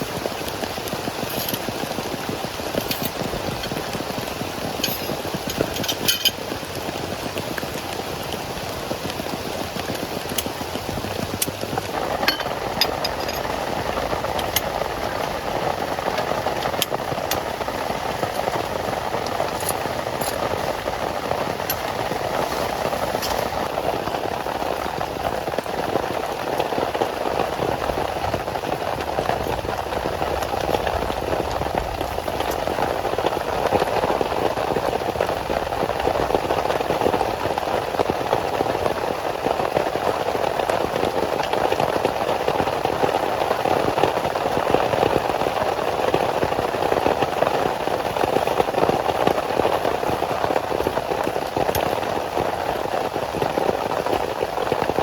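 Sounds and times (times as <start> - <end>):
heavy rain falling: 0.0 - 55.0
raindrops tapping: 0.0 - 55.0.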